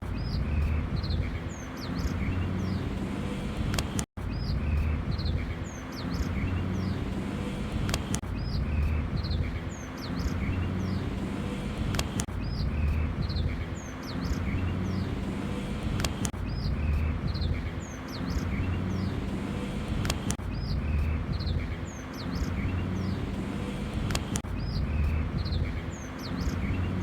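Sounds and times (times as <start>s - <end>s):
steady low rumble: 0.0s - 27.0s
small bird chirping: 0.1s - 27.0s.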